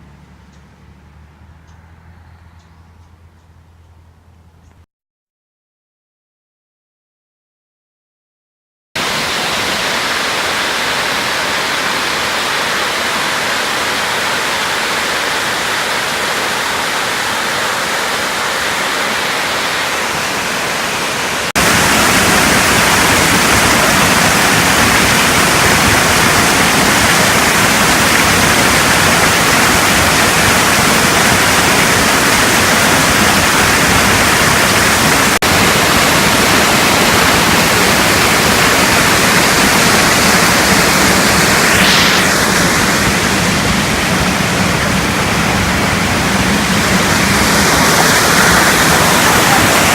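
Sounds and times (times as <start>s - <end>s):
waterfall rushing: 9.0s - 49.9s.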